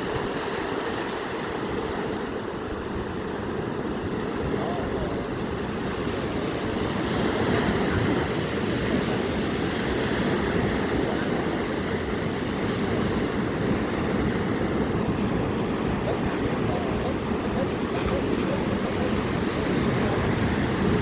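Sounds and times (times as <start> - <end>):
sea waves rushing: 0.0 - 21.0
wind buffeting microphone: 0.0 - 21.0.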